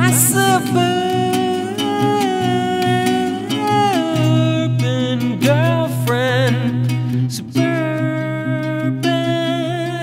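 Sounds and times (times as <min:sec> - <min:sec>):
acoustic guitar: 0:00.0 - 0:10.0
man singing: 0:00.0 - 0:10.0.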